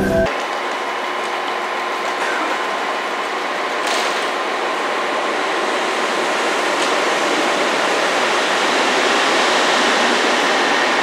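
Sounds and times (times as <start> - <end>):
train wheels rumbling on rail: 0.8 - 11.0.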